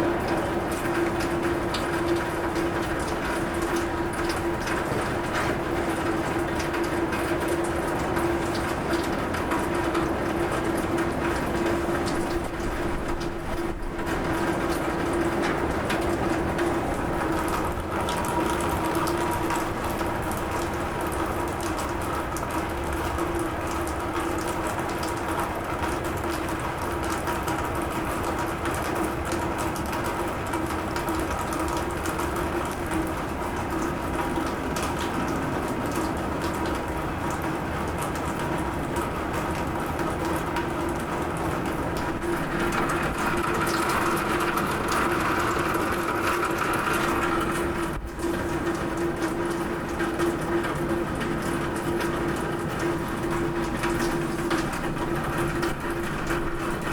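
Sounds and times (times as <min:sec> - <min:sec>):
rain on a roof: 0:00.0 - 0:56.9.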